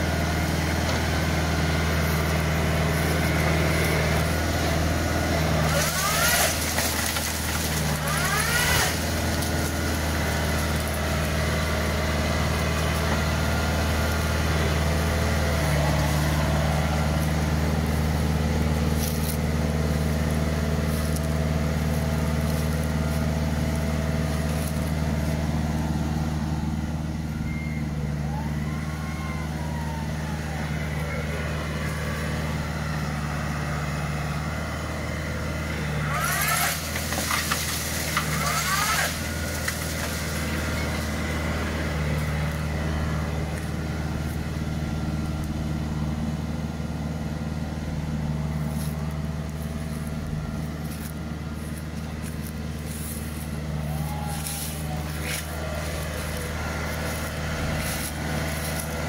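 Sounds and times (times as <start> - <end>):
tractor engine and hydraulics droning: 0.0 - 59.0.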